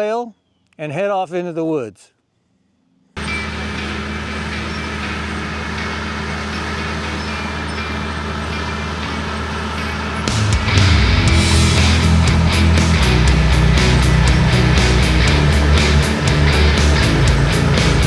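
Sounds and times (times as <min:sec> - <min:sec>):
bulldozer diesel engine running: 0:03.2 - 0:18.0.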